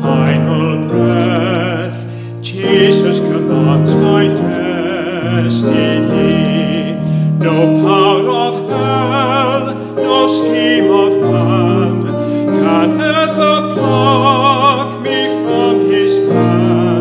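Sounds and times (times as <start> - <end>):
electric keyboard chords: 0.0 - 17.0
man singing a hymn: 0.0 - 17.0.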